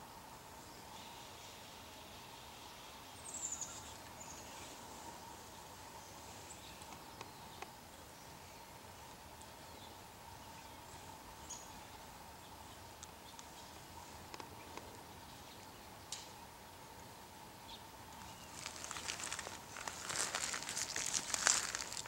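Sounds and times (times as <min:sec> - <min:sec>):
hiss of woods: 0:00.0 - 0:09.4, 0:10.0 - 0:22.0
faint hum: 0:00.0 - 0:22.0
small birds chirping: 0:00.0 - 0:22.0.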